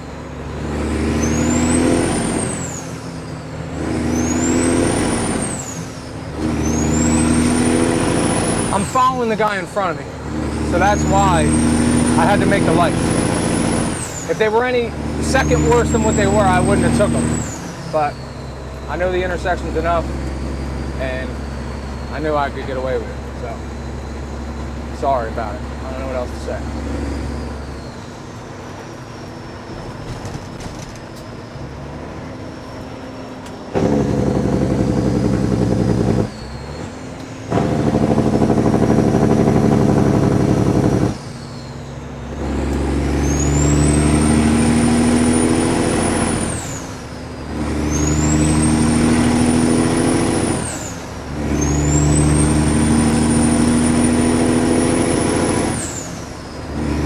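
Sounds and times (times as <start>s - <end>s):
diesel truck engine accelerating: 0.0s - 57.0s.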